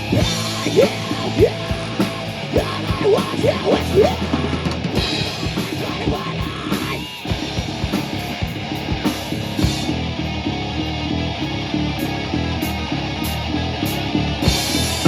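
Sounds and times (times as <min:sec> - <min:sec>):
drum kit pounding: 0:00.0 - 0:15.0
live rock band playing: 0:00.0 - 0:15.0.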